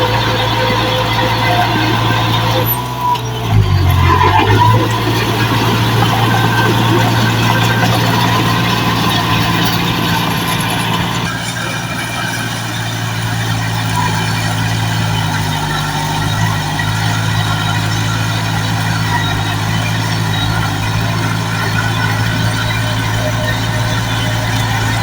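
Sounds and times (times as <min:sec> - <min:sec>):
heavy machine engine running: 0:00.0 - 0:25.0.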